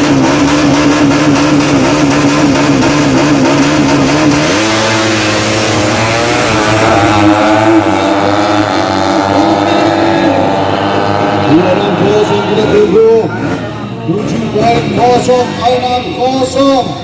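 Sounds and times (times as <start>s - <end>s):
motorcycle engines revving high: 0.0s - 17.0s.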